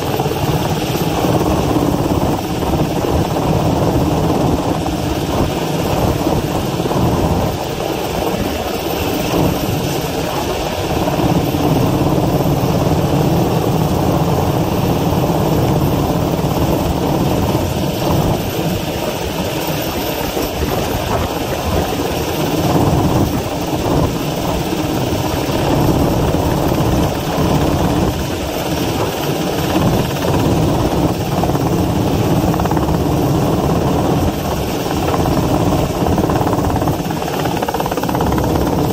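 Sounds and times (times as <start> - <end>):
helicopter hovering overhead: 0.0 - 38.9.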